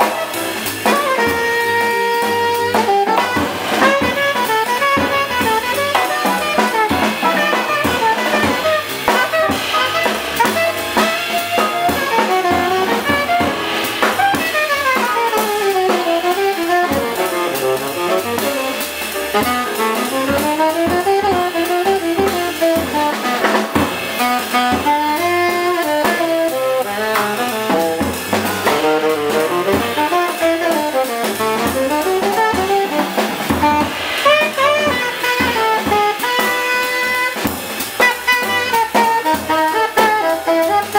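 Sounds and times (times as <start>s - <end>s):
jazz band playing: 0.0s - 40.9s
saxophone solo: 0.0s - 40.9s.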